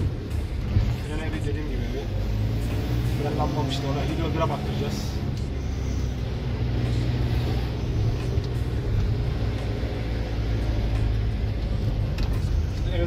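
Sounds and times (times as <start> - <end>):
diesel engine drone: 0.0 - 13.0
road noise: 0.0 - 13.0.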